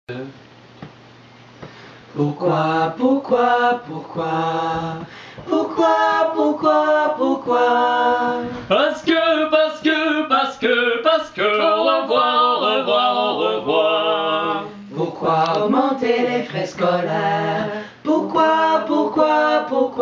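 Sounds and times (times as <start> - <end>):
mixed choir singing a cappella: 2.1 - 20.0.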